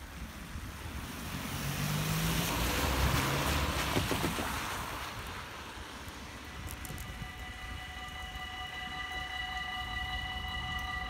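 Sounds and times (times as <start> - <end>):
car driving past: 1.0 - 11.0.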